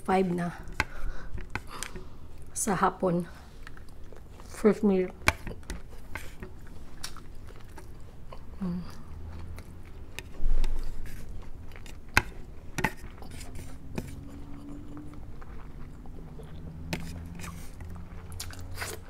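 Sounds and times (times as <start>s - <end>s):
close-up chewing and biting: 3.5s - 19.0s.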